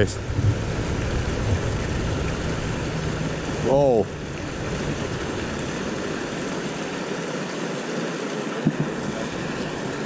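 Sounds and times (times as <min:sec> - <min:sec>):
water pouring over a weir: 0:00.0 - 0:10.0.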